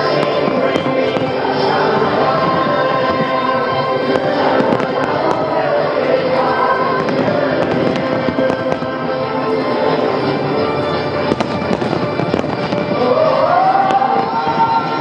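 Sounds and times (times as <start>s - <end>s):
fireworks popping and crackling: 0.0s - 15.0s
loud music: 0.0s - 15.0s.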